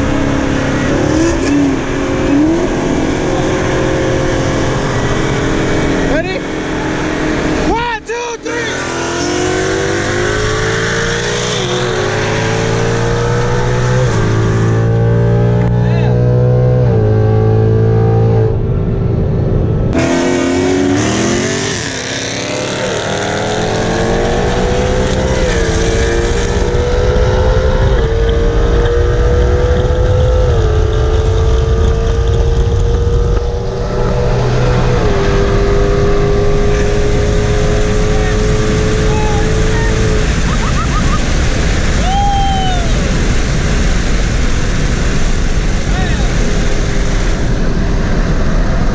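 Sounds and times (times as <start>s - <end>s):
car engine accelerating with upshifts: 0.0s - 7.8s, 8.5s - 48.9s.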